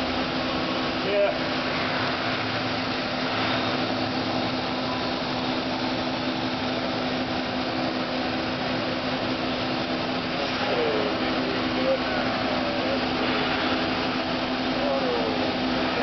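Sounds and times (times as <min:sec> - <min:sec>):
lathe whirring hum: 0:00.0 - 0:16.0.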